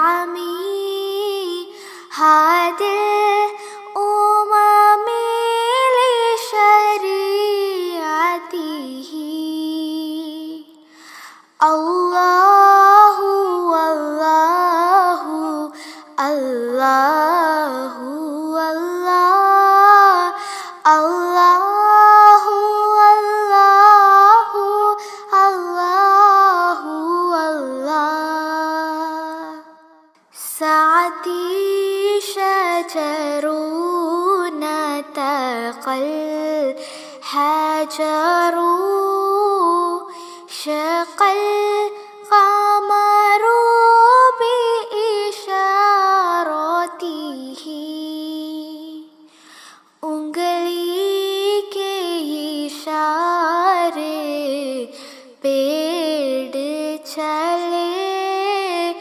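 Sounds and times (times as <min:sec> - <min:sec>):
woman singing: 0:00.0 - 0:59.0.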